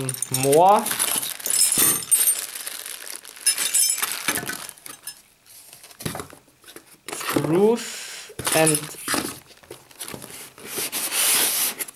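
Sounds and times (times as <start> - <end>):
plastic bags of metal parts crinkling: 0.0 - 7.3, 8.4 - 10.8.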